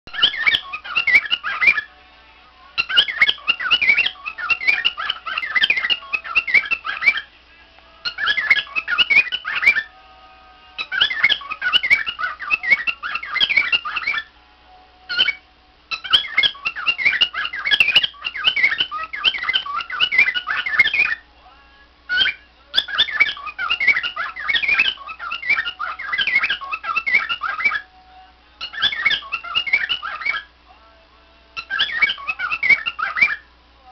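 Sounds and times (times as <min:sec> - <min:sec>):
cockatiel chattering and warbling: 0:00.1 - 0:01.9, 0:02.8 - 0:07.3, 0:08.0 - 0:09.9, 0:10.8 - 0:14.3, 0:15.1 - 0:21.2, 0:22.1 - 0:27.9, 0:28.6 - 0:30.5, 0:31.6 - 0:33.4.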